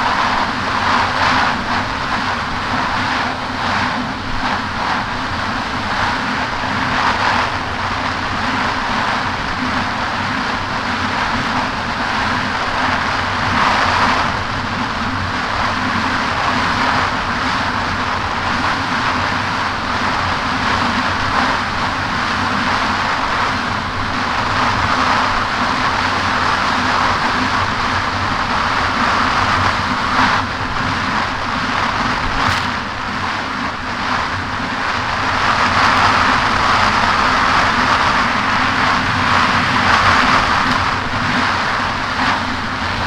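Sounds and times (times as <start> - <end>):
jet ski engine drone: 0.0 - 43.0
water and wind rushing: 0.0 - 43.0.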